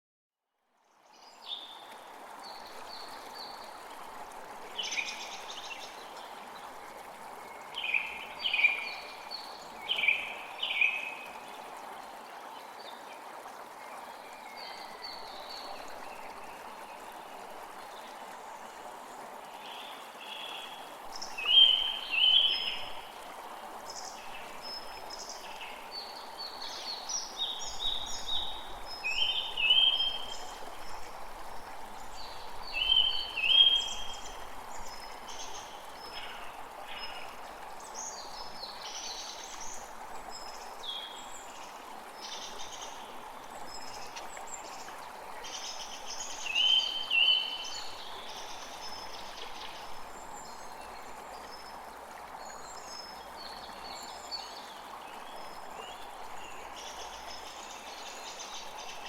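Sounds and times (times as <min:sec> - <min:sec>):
creek water flowing: 0:00.6 - 0:59.0.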